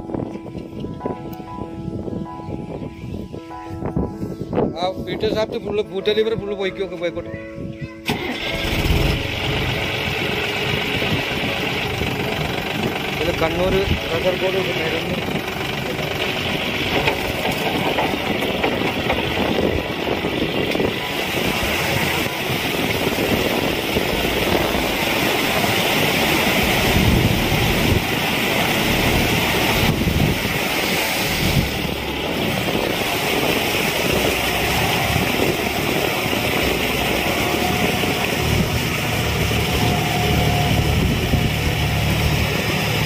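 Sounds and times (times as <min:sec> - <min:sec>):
tractor diesel engine running: 0:08.0 - 0:43.0.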